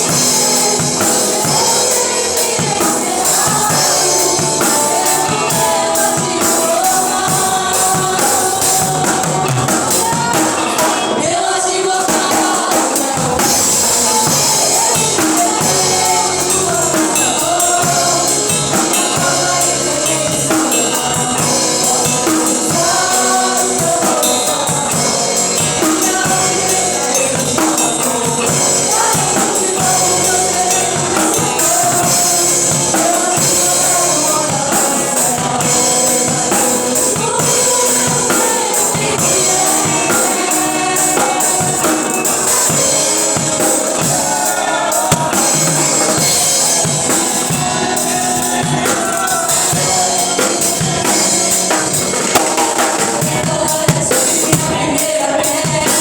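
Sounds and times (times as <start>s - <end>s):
drums: 0.0s - 56.0s
gospel singing: 0.0s - 56.0s.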